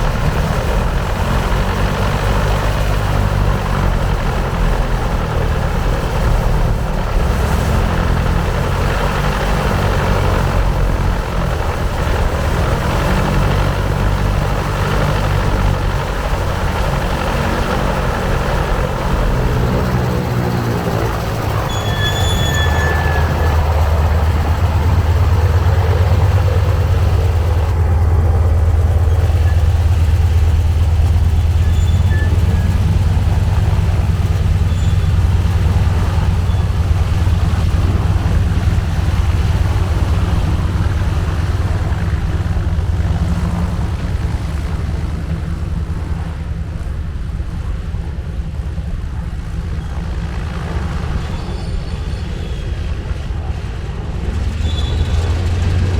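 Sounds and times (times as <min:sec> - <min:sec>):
radial aircraft engine rumbling: 0:00.0 - 0:55.9.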